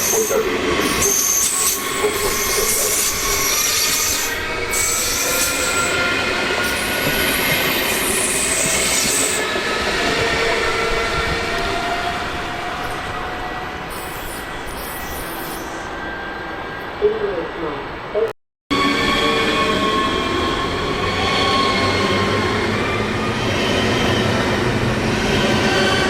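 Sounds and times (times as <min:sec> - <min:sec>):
train wheels squealing on rails: 0:00.0 - 0:17.0, 0:18.7 - 0:26.0
train running noise: 0:00.0 - 0:26.0.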